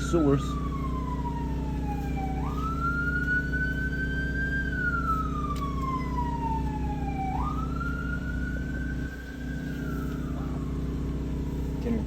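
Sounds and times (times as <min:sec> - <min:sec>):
emergency vehicle siren wailing: 0:00.0 - 0:12.0
engine hum: 0:00.0 - 0:12.0.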